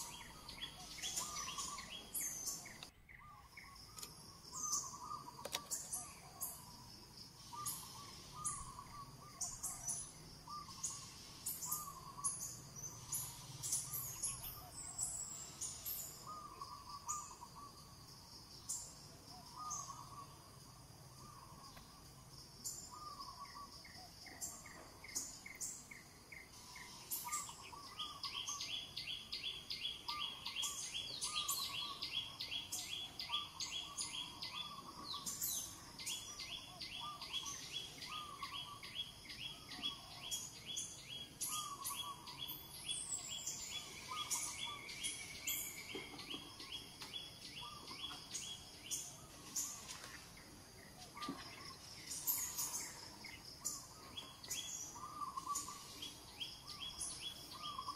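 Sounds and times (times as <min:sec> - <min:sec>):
lower bird chirping: 0:00.0 - 0:57.9.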